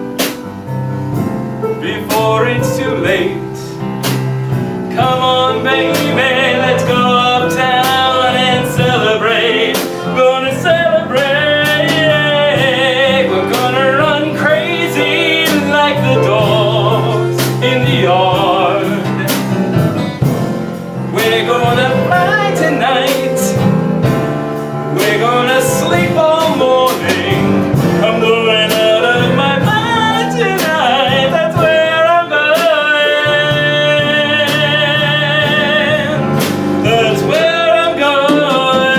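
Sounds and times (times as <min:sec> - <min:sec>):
live band playing: 0:00.0 - 0:38.9
person singing: 0:01.8 - 0:03.8, 0:04.9 - 0:19.9, 0:21.0 - 0:23.8, 0:24.9 - 0:38.9.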